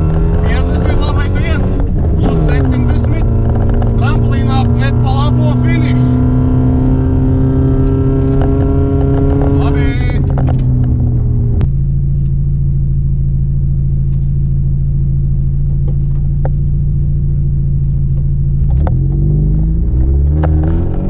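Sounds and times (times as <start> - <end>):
car engine under power: 0.0 - 21.0.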